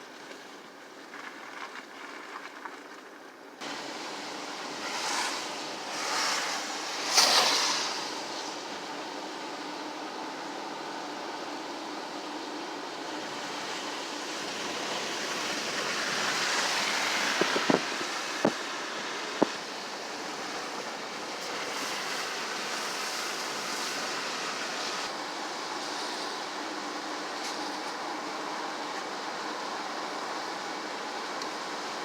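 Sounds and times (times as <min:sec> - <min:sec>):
steady rushing noise: 0:03.6 - 0:32.0.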